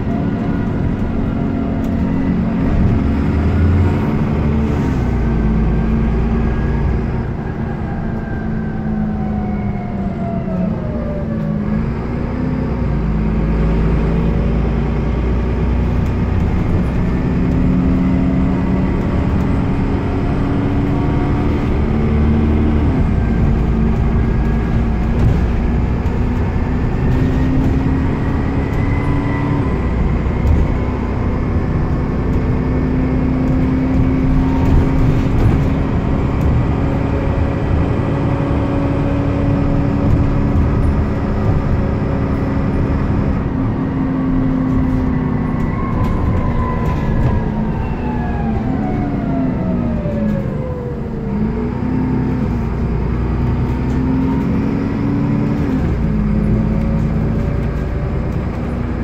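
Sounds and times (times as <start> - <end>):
bus engine and drivetrain hum: 0.0 - 59.0
road rumble: 0.0 - 59.0.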